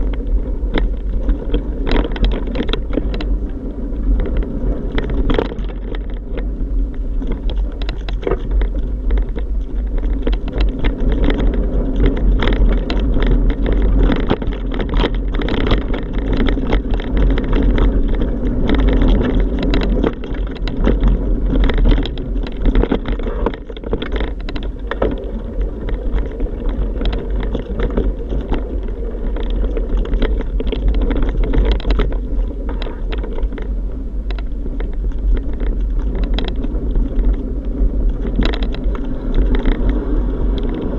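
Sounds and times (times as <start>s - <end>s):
bike rattles and knocks: 0.0s - 40.9s
bike riding rumble: 0.0s - 40.9s.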